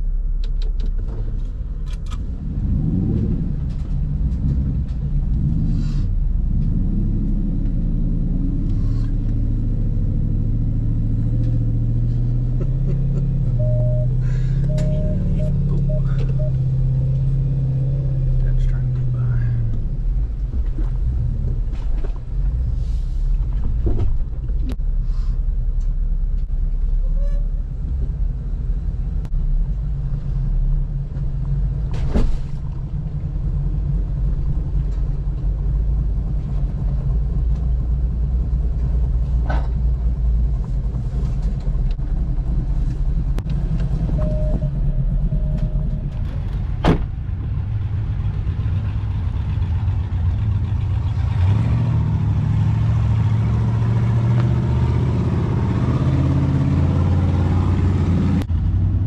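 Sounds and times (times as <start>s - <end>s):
engine running low: 0.0s - 59.0s.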